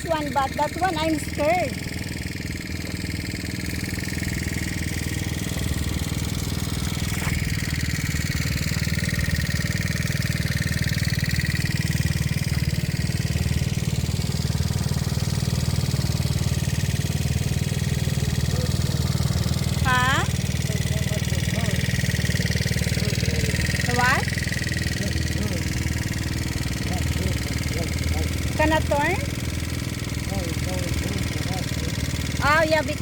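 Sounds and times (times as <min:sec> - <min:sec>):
small motorbike engine running: 0:00.0 - 0:33.0.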